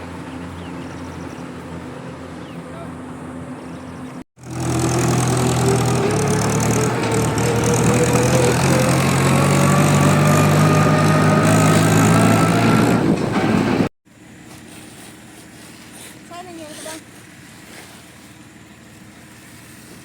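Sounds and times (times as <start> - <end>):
farm machinery engine running: 0.0 - 17.5.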